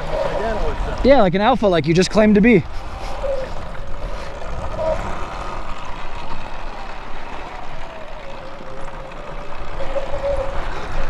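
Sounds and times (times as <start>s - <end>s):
electric motorbike motor whining: 0.0s - 11.0s
wind rumble on microphone: 0.0s - 11.0s.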